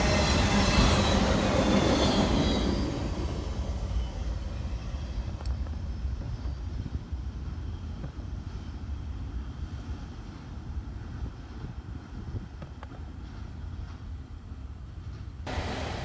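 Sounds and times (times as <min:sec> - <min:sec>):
freight train rumbling by: 0:00.0 - 0:16.0.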